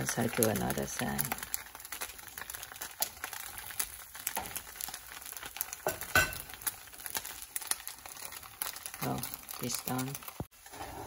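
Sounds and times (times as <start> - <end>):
batter sizzling in a pan: 0.0 - 11.0.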